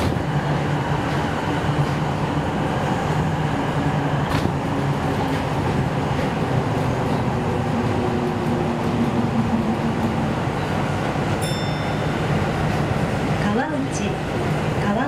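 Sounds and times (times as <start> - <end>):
train rumble in tunnel: 0.0 - 15.0.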